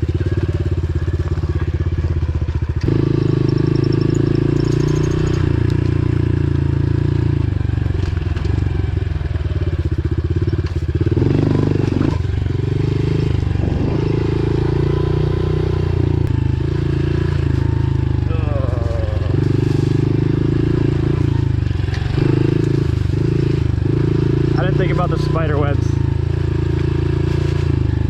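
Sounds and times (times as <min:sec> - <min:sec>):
dirt bike engine running: 0:00.0 - 0:28.0.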